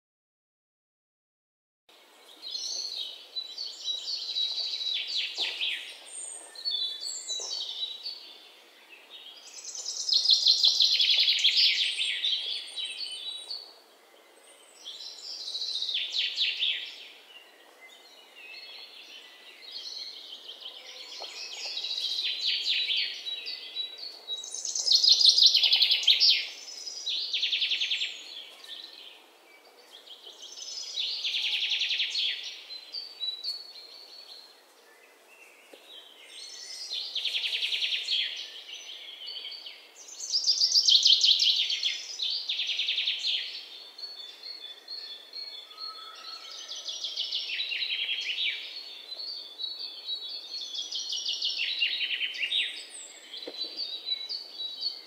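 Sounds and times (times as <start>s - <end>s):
songbirds singing trills: 2.0s - 55.0s.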